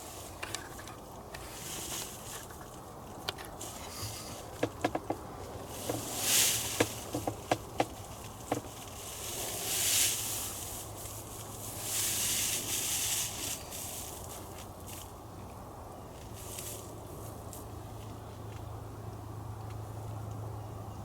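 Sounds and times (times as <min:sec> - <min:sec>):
rustling in dry leaves: 0:00.0 - 0:18.4.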